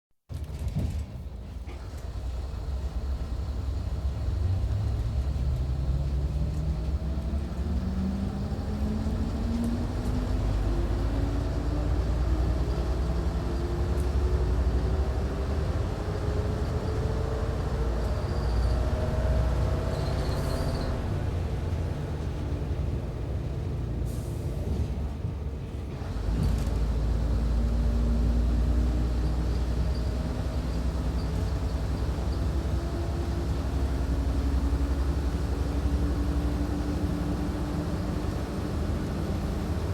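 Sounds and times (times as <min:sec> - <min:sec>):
diesel railcar engine: 0:00.3 - 0:39.9.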